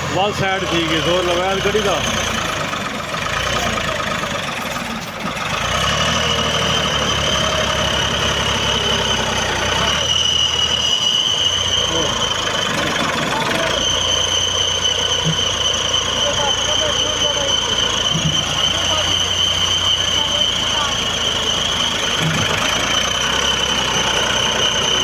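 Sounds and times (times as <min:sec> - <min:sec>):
tractor engine straining: 0:00.0 - 0:25.0.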